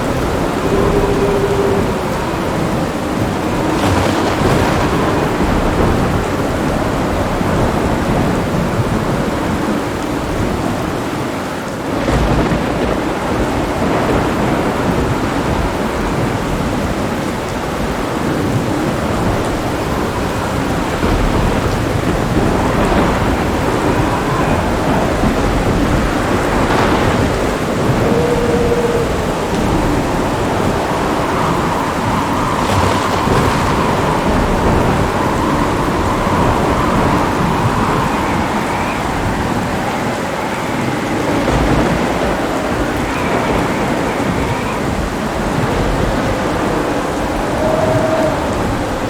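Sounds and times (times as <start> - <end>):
heavy rain falling: 0.0 - 49.0
rolling thunder: 0.0 - 49.0.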